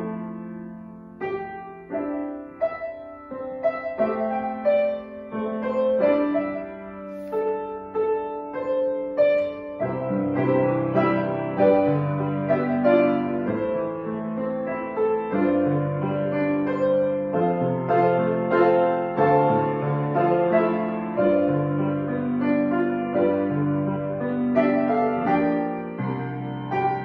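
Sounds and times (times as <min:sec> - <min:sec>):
slow gentle piano piece: 0:00.0 - 0:27.0.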